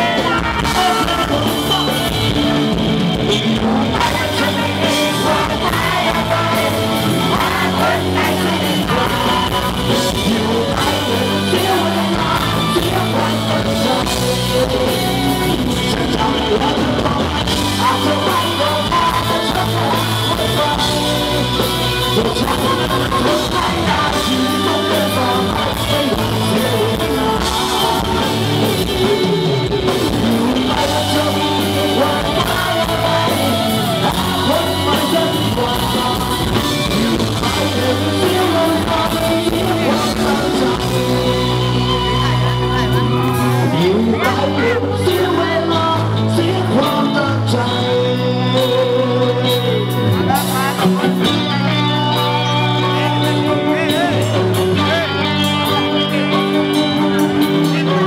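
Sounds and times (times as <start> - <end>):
drum kit: 0.0 - 58.0
electric bass: 0.0 - 58.0
electric guitar: 0.0 - 58.0
male singer: 0.0 - 58.0.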